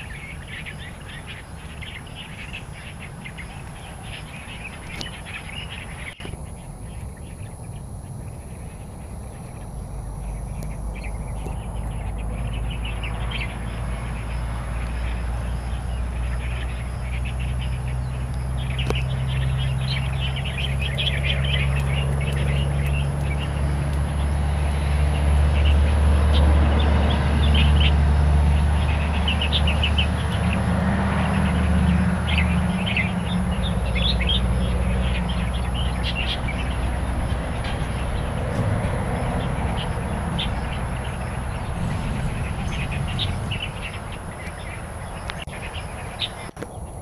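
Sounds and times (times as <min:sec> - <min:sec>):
songbirds chirping: 0:00.0 - 0:47.0
steady low rumble: 0:00.0 - 0:47.0.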